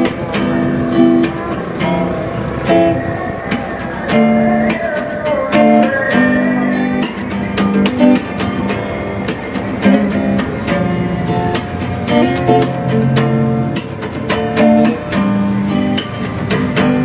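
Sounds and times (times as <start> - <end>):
strummed acoustic guitar music: 0.0 - 17.0.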